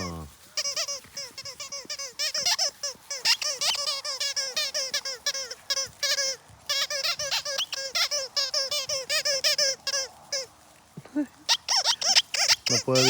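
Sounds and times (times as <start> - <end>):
squeaky toy squeaking: 0.0 - 10.5, 11.5 - 13.0.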